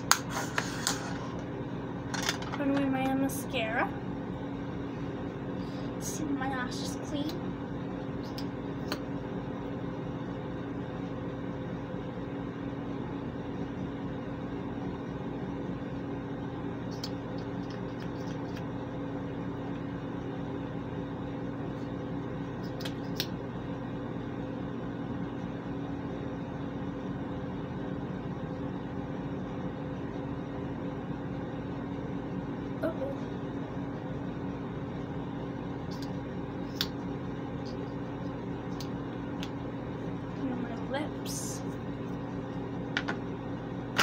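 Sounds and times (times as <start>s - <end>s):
ventilation fan humming: 0.0s - 44.0s.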